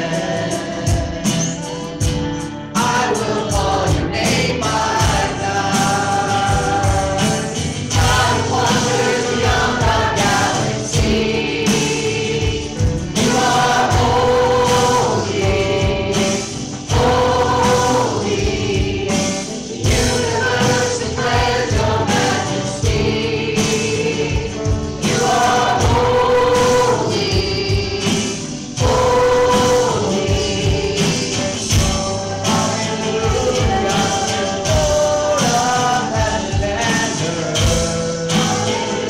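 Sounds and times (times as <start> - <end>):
gospel choir singing: 0.0 - 39.0
instrumental accompaniment: 0.0 - 39.0.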